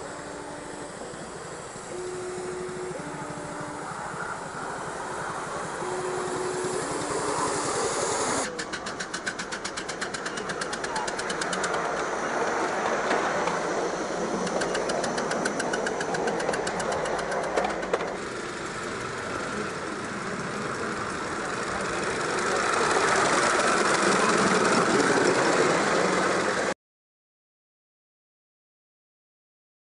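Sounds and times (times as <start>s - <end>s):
steam hissing: 0.0s - 26.7s
steam locomotive exhaust chuffs: 0.0s - 26.7s.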